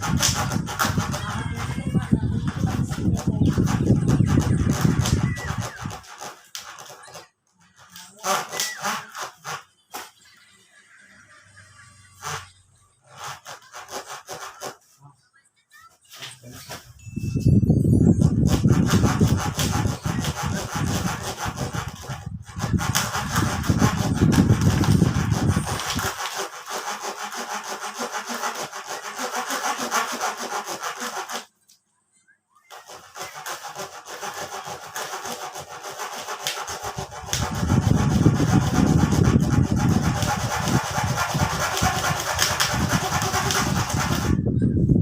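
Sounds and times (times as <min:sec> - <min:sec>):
hand saw sawing: 0:00.0 - 0:10.1, 0:12.0 - 0:15.0, 0:18.2 - 0:31.5, 0:32.7 - 0:44.5.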